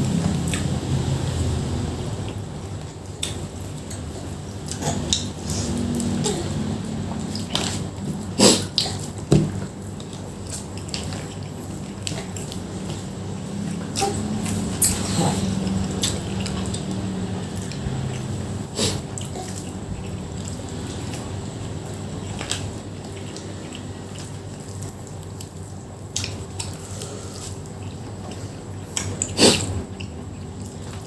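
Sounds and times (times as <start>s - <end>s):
person chewing food: 0.1s - 31.0s.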